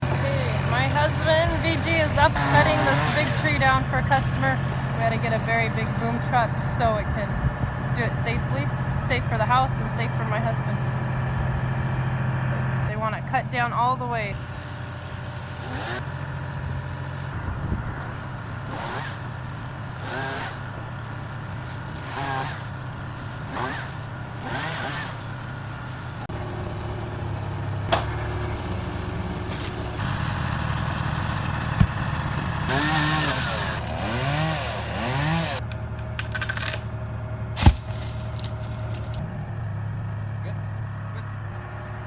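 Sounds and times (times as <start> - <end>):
chainsaw revving: 0.0 - 17.4, 18.0 - 36.9, 37.6 - 39.2
truck engine running: 0.0 - 42.0.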